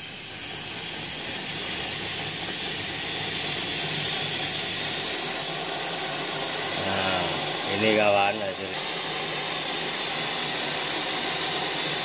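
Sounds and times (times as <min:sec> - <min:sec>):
torch jet flame hissing: 0:00.0 - 0:12.0.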